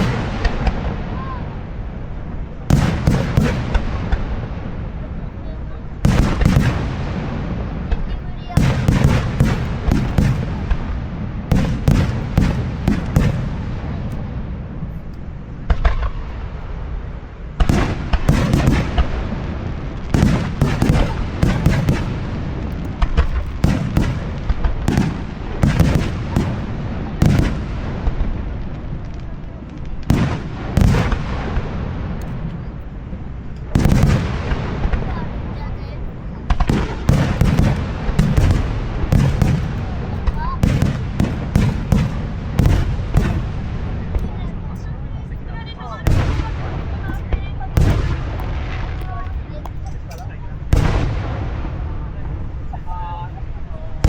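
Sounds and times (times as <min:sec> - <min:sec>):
fireworks bursting: 0:00.0 - 0:54.0
low rolling rumble: 0:00.0 - 0:54.0.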